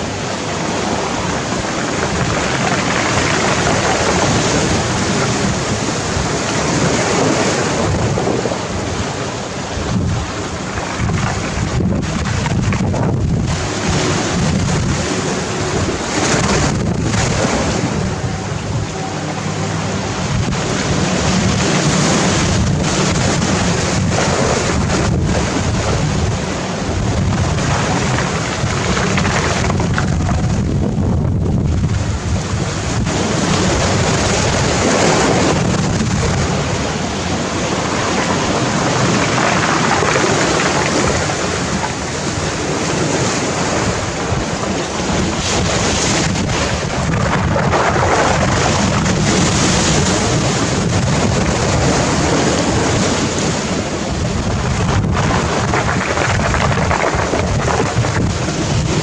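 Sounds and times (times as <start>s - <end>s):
waves breaking on pebbles: 0.0s - 59.0s
wind rumbling on microphone: 0.0s - 59.0s.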